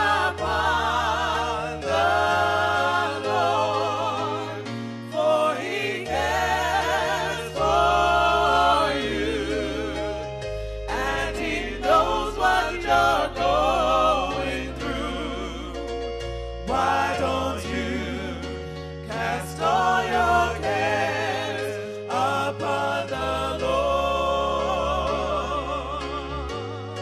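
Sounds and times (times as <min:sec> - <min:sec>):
gospel singing with vibrato: 0:00.0 - 0:27.0.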